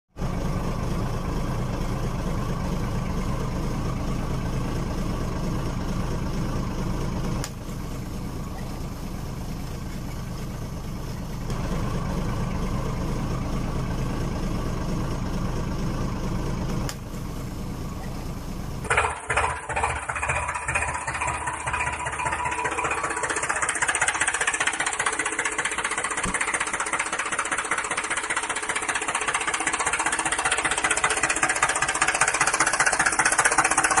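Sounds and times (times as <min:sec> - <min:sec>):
low engine-like drone: 0:00.2 - 0:34.0.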